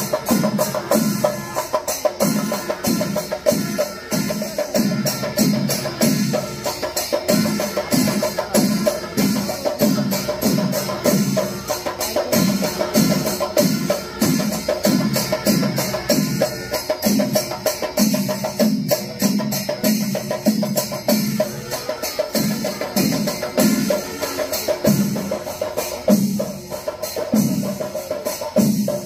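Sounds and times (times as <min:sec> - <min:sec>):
drums beating steady rhythm: 0:00.0 - 0:29.0
hand cymbals clashing: 0:00.0 - 0:29.0.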